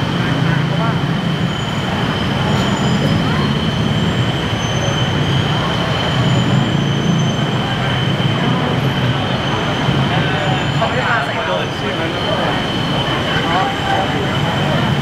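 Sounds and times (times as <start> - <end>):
elevated train whine and rumble: 0.0 - 15.0
street traffic: 0.0 - 15.0.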